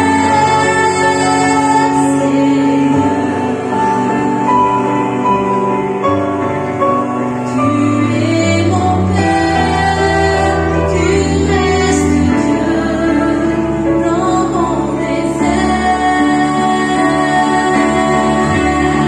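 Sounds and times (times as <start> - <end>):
woman singing a hymn: 0.0 - 6.1, 7.5 - 19.0
low accompaniment notes: 0.0 - 19.0.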